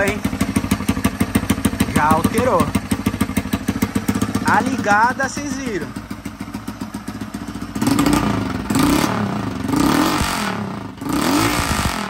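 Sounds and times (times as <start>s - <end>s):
loud motorcycle engine revving: 0.0s - 12.0s.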